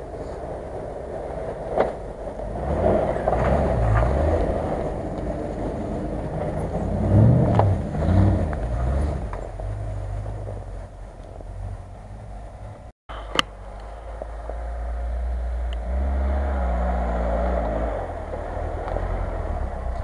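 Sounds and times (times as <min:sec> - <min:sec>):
off-road vehicle engine: 0:00.0 - 0:20.0
suv engine revving: 0:00.0 - 0:20.0.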